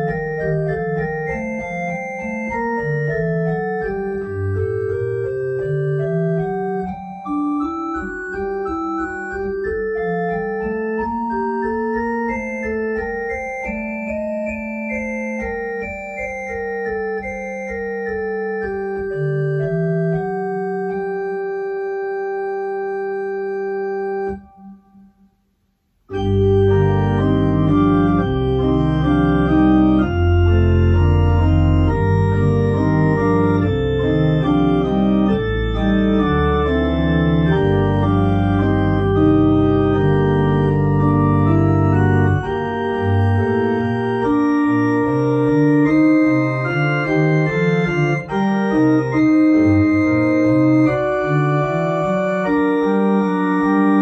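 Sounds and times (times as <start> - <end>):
deep organ bass notes: 0.0 - 25.0, 26.1 - 54.0
electronic organ chords: 0.0 - 25.4, 26.1 - 54.0.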